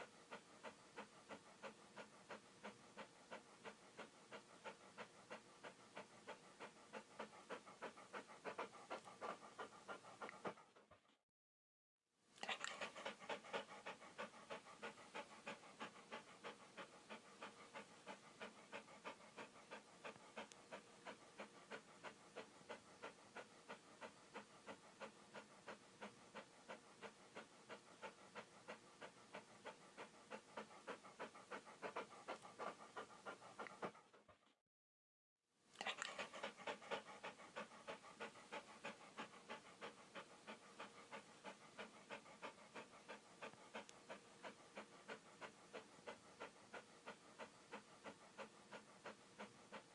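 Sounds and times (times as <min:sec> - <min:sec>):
dog panting: 0:00.0 - 0:11.2, 0:12.4 - 0:34.6, 0:35.8 - 0:49.9.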